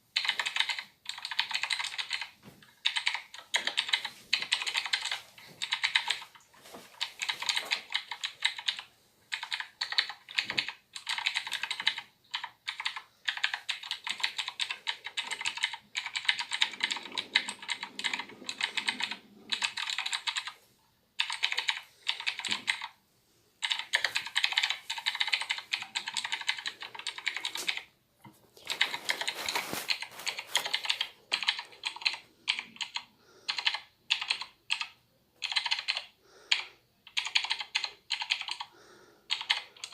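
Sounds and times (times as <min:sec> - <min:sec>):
mechanical keyboard typing: 0:00.2 - 0:20.6, 0:21.2 - 0:23.0, 0:23.6 - 0:27.9, 0:28.6 - 0:38.7, 0:39.3 - 0:39.9.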